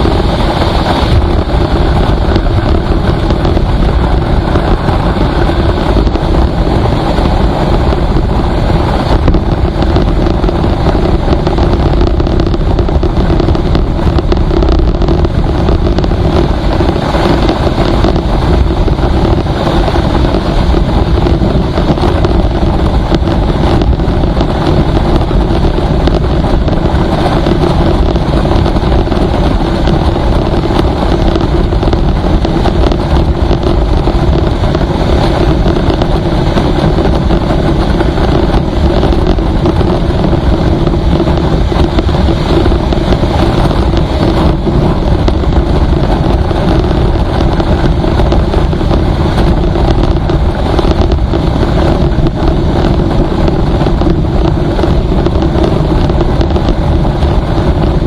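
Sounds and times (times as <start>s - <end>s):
vehicle driving on highway: 0.0s - 58.0s.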